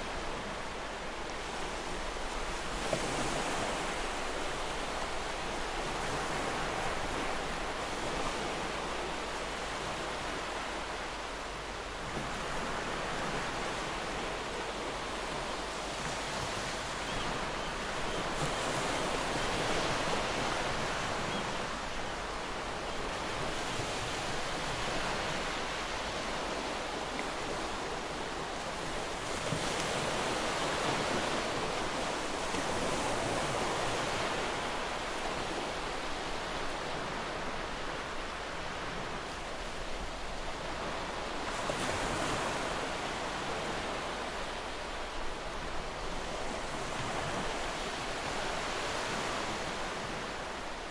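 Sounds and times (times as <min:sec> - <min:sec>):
sea waves washing onto shore: 0:00.0 - 0:50.9.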